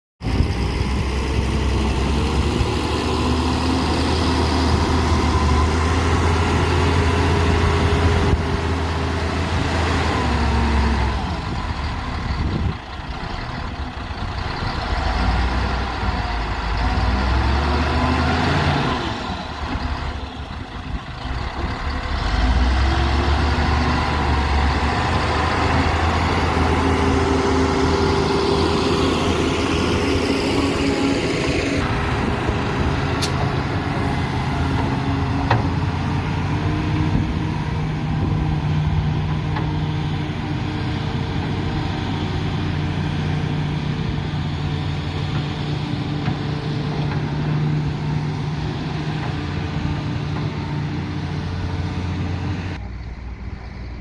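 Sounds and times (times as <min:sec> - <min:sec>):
diesel engine running: 0:00.2 - 0:54.0.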